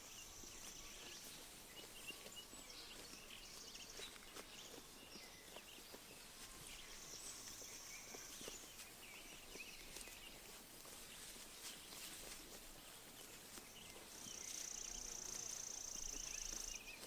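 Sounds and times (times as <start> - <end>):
sheep grazing rustles: 0.0 - 17.0
small birds chirping: 0.0 - 17.0.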